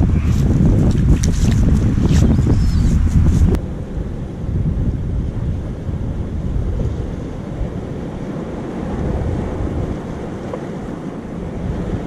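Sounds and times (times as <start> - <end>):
surf on shore: 0.0 - 12.0
wind buffeting microphone: 0.0 - 12.0.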